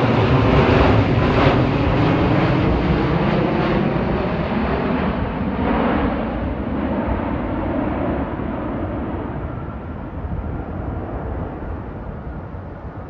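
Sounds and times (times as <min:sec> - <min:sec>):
jet airliner passing overhead: 0:00.0 - 0:13.0
wind buffeting microphone: 0:00.0 - 0:13.0.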